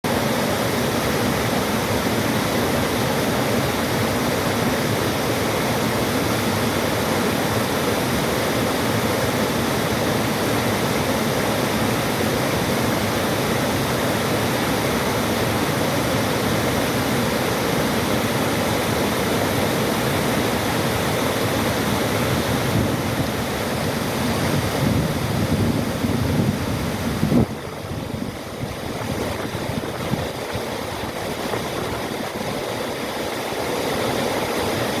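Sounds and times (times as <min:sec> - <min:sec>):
waterfall roaring: 0:00.1 - 0:35.0.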